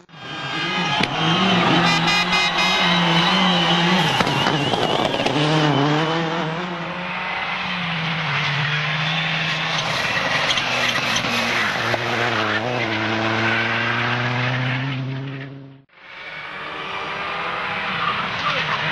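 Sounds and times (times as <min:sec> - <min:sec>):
rally car engine revving: 0:00.0 - 0:18.9.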